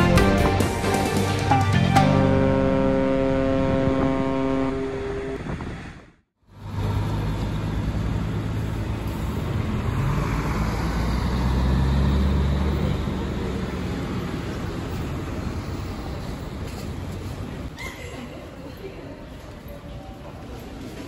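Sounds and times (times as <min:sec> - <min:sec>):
bus engine rumble: 0:02.2 - 0:21.0.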